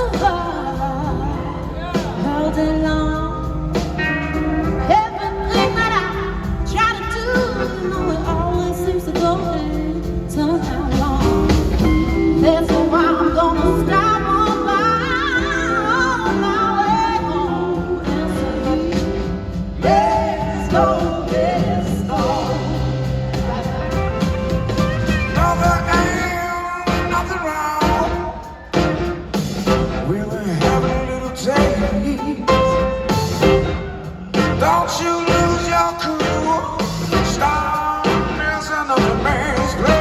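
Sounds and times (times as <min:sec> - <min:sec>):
live blues soul band playing: 0:00.0 - 0:40.0.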